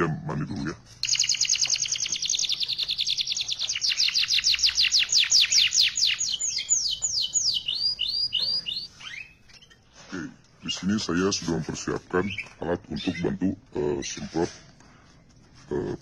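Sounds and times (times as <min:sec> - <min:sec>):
canary singing: 0:00.0 - 0:14.5.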